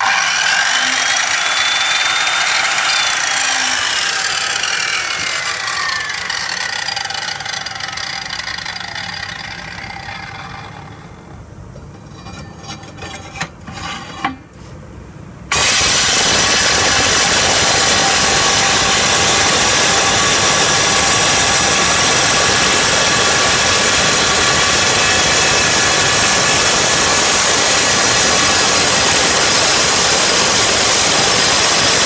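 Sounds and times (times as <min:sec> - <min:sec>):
circular saw whine: 0:00.0 - 0:14.2, 0:15.5 - 0:32.0.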